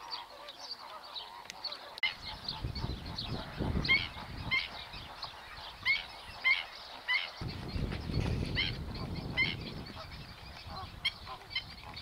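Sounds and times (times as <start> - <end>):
birds honking calls: 0.0 - 12.0.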